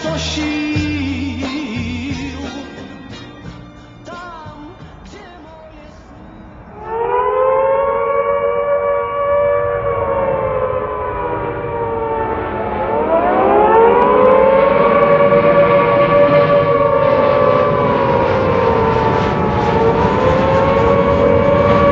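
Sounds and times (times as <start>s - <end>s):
civil defence sirens wailing: 0.0s - 21.9s.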